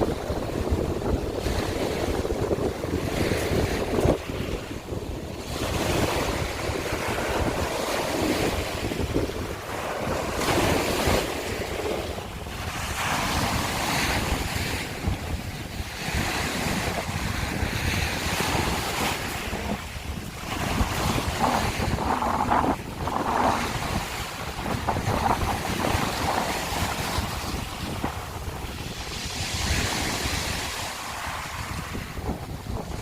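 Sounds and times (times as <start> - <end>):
waves washing over shells: 0.0 - 33.0
wind rumbling on microphone: 0.0 - 33.0.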